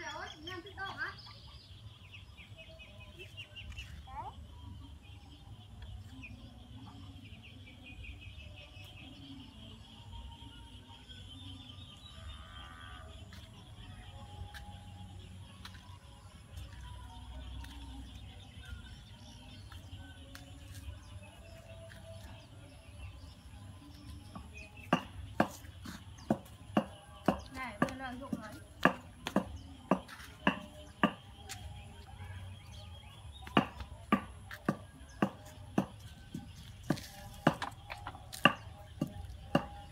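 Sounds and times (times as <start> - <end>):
faint background voices: 0.0 - 39.9.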